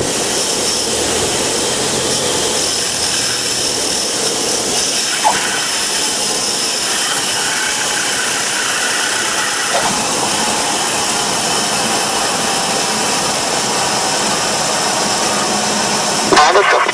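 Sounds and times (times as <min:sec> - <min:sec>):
airplane engine idling: 0:00.0 - 0:16.9.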